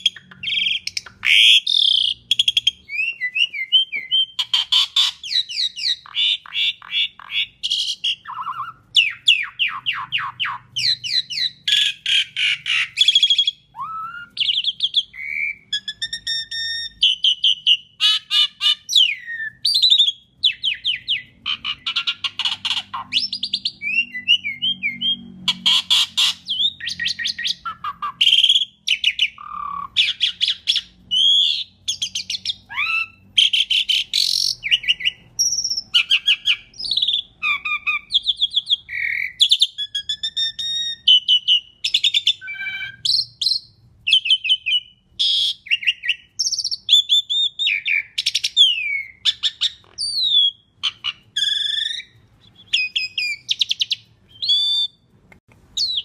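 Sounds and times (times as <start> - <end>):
starling singing whistles and rattles: 0.0 - 55.1, 55.8 - 56.0.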